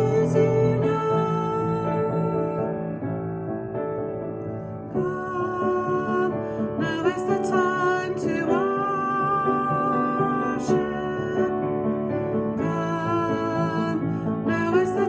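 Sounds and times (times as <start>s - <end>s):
person singing: 0.0s - 3.6s, 4.6s - 15.0s
worship song with piano: 0.0s - 15.0s.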